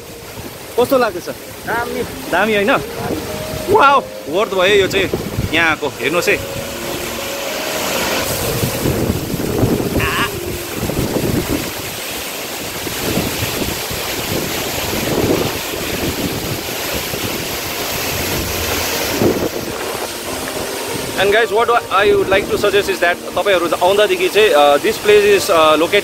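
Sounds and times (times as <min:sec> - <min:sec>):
wind buffeting microphone: 0:00.0 - 0:21.2
waterfall rushing: 0:00.0 - 0:26.0.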